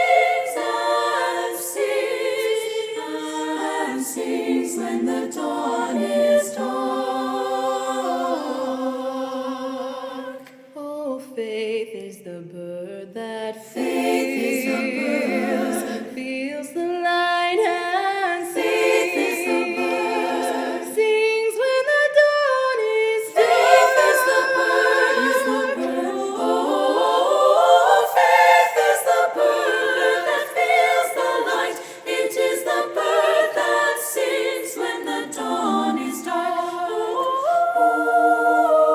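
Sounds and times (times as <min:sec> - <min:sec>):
women's choir singing a cappella: 0:00.0 - 0:38.9.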